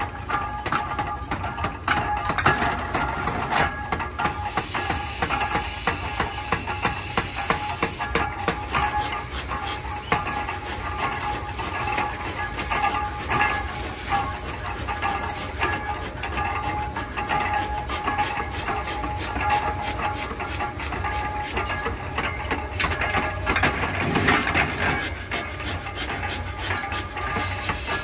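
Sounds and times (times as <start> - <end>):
forging machinery running: 0.0 - 28.0
metallic knocks and clanks: 0.0 - 28.0.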